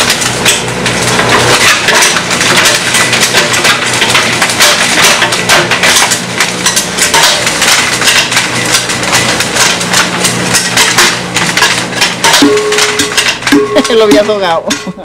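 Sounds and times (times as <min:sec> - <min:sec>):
rock crushing clatter: 0:00.0 - 0:15.0.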